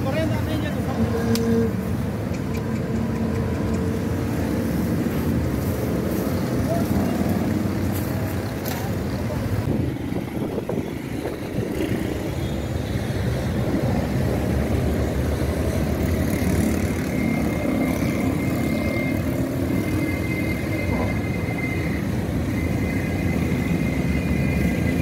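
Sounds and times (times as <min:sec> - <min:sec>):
engines and street traffic: 0:00.0 - 0:25.0.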